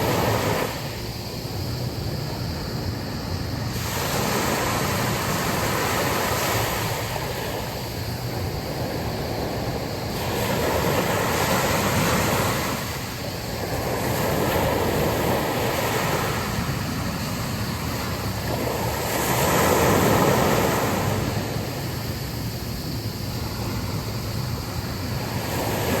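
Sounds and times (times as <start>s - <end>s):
sea waves breaking on beach: 0.0s - 26.0s
wind noise: 0.0s - 26.0s.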